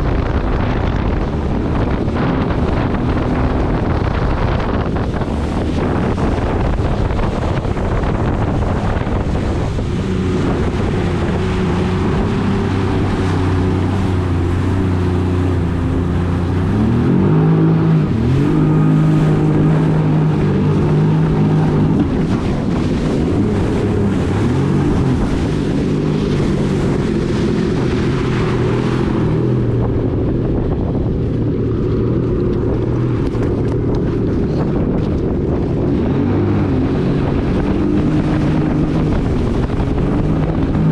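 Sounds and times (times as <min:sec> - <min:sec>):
personal watercraft engine running: 0:00.0 - 0:40.9
water rushing past hull: 0:00.0 - 0:40.9
wind buffeting microphone: 0:00.0 - 0:40.9.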